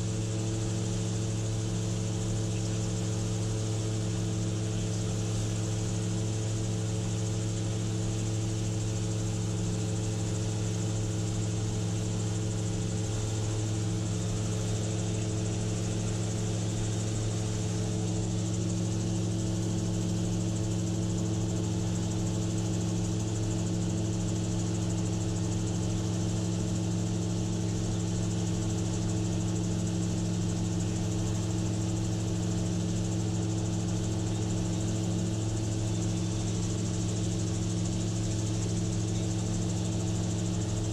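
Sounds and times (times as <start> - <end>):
aircraft engine drone: 0.0 - 40.9.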